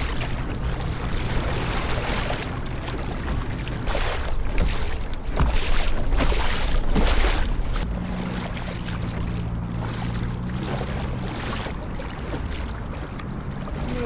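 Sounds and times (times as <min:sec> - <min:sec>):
water splashing along a kayak: 0:00.0 - 0:14.0.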